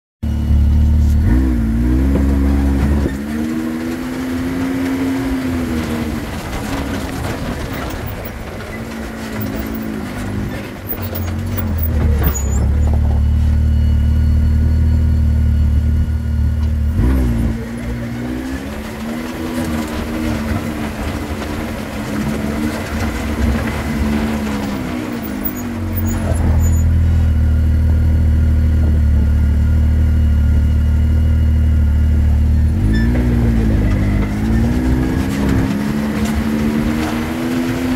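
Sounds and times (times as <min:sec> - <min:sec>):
deeper steady engine sound: 0:00.2 - 0:37.9
off-road vehicle engine running: 0:00.2 - 0:37.9.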